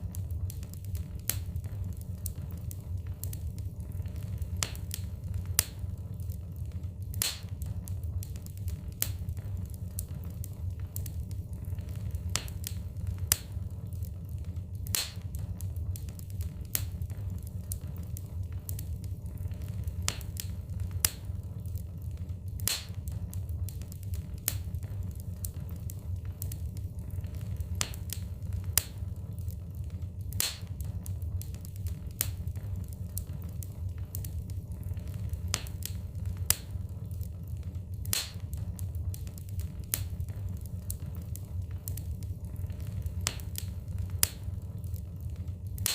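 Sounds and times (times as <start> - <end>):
fire crackling and popping: 0.0 - 45.9
fire rumbling: 0.0 - 45.9.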